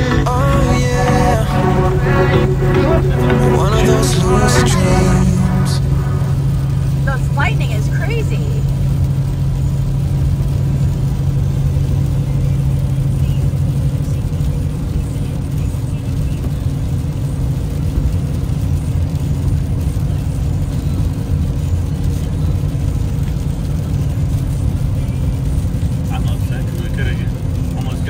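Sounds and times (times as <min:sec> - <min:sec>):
car road noise rumble: 0:00.0 - 0:28.0
engine hum: 0:00.0 - 0:28.0.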